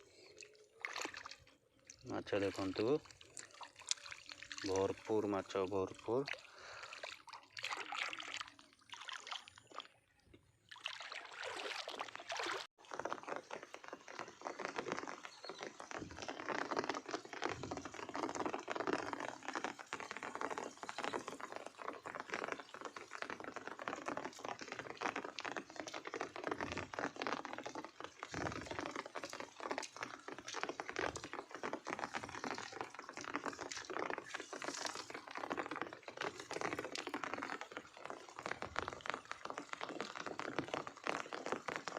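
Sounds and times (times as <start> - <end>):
running water splashing: 0.0 - 10.0, 10.7 - 41.9.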